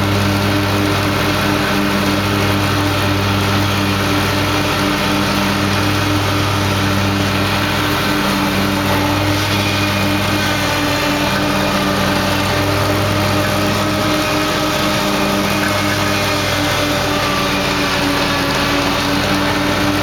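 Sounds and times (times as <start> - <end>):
lawn mower engine running: 0.0 - 20.0.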